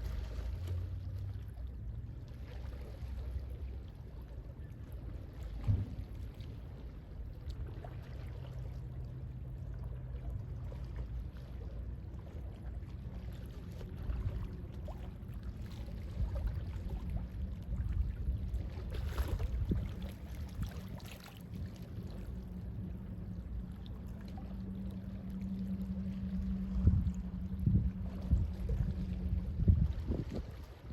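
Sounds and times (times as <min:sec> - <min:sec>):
faint low hum: 0:00.0 - 0:30.9
sea waves lapping: 0:00.0 - 0:30.9.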